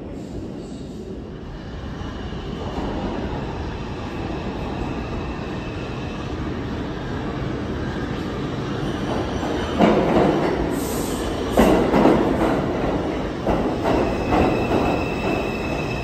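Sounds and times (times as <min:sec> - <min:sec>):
subway train rumble in tunnel: 0:00.0 - 0:16.0.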